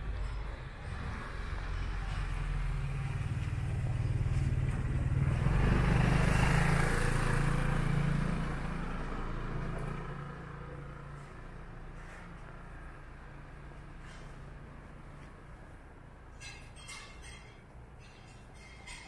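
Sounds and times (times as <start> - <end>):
vehicle passing by: 0.6 - 16.0.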